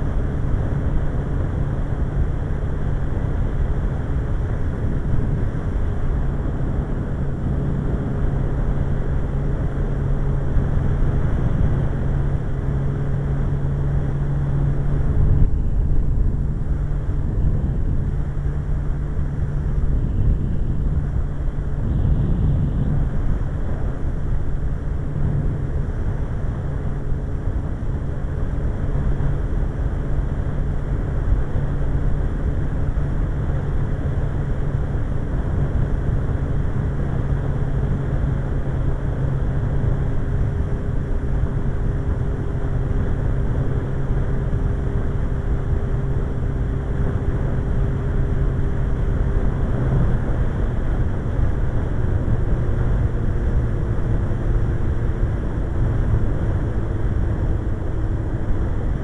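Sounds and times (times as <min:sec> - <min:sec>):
wind rush: 0:00.0 - 0:59.0
motorcycle engine running: 0:04.0 - 0:59.0.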